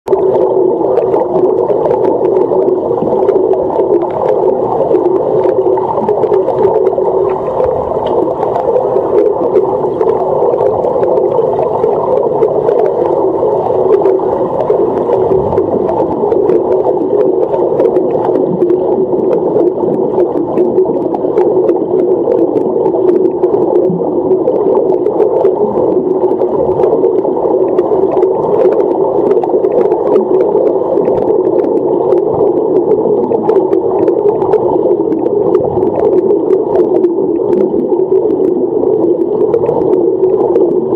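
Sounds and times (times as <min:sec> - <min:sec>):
muffled underwater rushing hum: 0:00.1 - 0:40.9.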